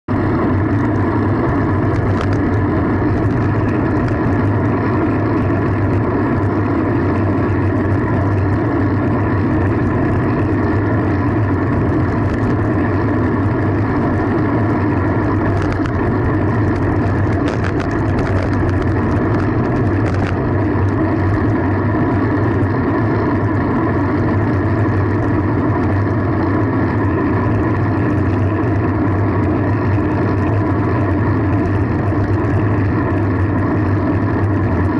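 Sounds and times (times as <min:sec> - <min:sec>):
road noise: 0:00.0 - 0:34.9
wind on microphone: 0:00.3 - 0:34.9.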